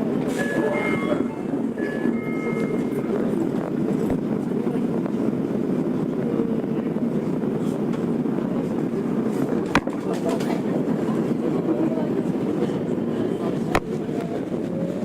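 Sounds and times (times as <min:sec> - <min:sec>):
subway car rumble: 0:00.0 - 0:15.0.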